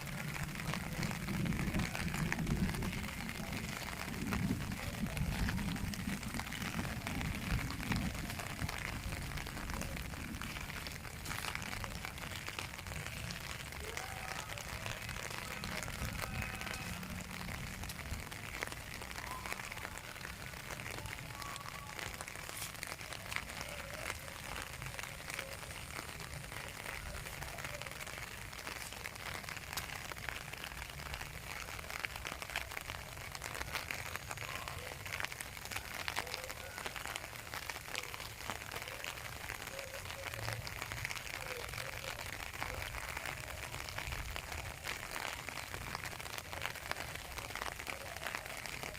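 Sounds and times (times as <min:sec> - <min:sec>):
steady rain patter: 0:00.0 - 0:48.9.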